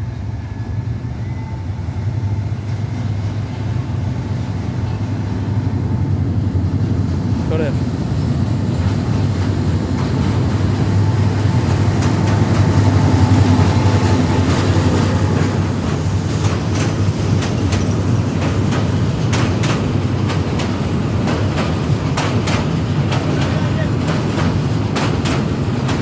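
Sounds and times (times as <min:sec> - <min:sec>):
train rumbling: 0:00.0 - 0:26.0
wheels clacking over rail joints: 0:03.5 - 0:26.0.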